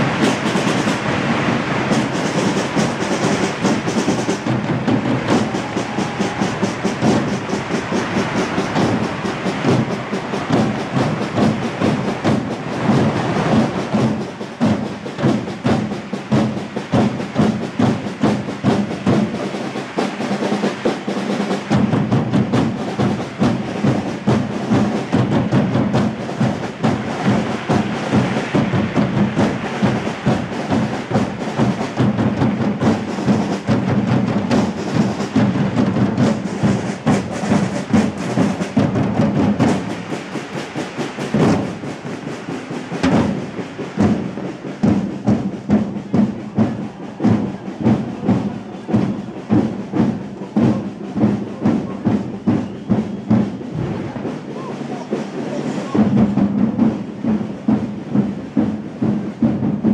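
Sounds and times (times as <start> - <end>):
drum band marching rhythm: 0.0 - 59.9.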